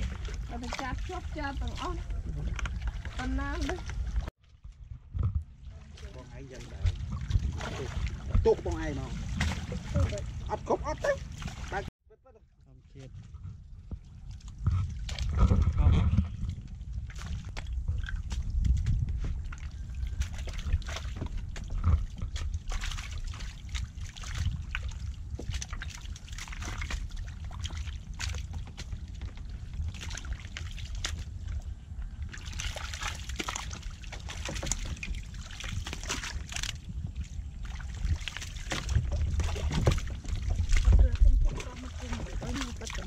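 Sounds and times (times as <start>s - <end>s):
water splashing and dripping: 0.0s - 11.9s, 13.8s - 43.0s
low rumble: 0.0s - 43.0s.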